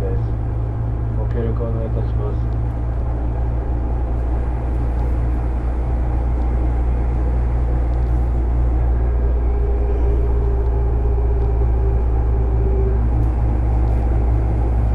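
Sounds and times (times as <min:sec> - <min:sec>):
motor hum: 0:00.0 - 0:14.9
train running rumble: 0:00.0 - 0:14.9.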